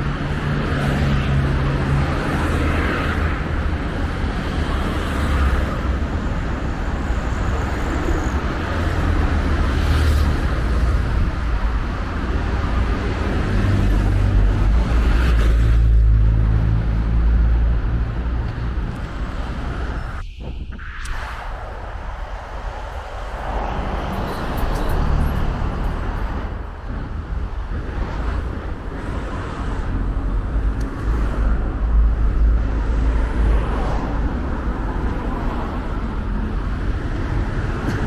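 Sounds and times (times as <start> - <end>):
vehicle engines: 0.0 - 38.0.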